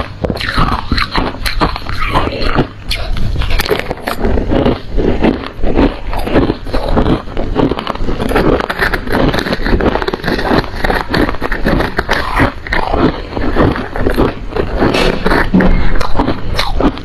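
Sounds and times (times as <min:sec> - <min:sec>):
frost crunching while chewed: 0:00.0 - 0:17.0.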